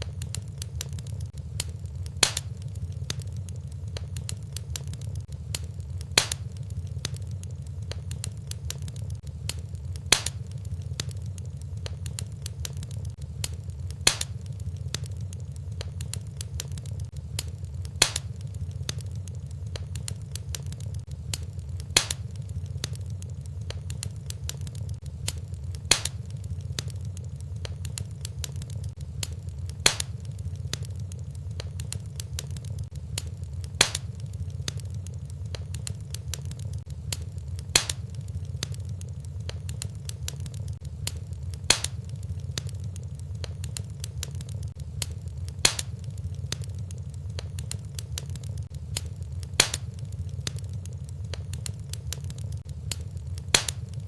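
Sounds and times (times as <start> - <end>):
low rumble of flames: 0.0 - 54.0
small fire crackles: 0.0 - 54.0.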